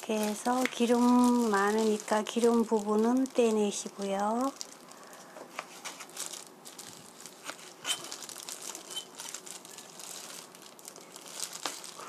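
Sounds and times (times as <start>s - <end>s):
plastic glove crinkling: 0.0s - 12.0s.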